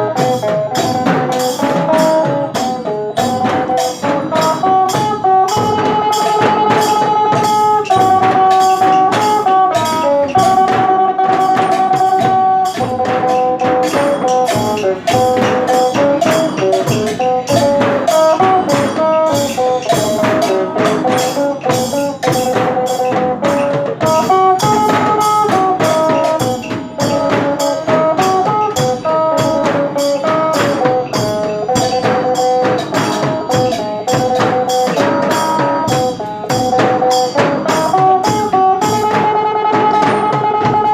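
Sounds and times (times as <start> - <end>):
fast percussion beat: 0.0 - 40.9.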